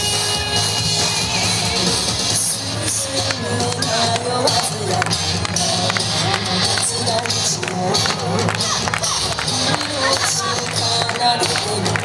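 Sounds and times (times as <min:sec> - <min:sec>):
dance music playing: 0:00.0 - 0:12.0.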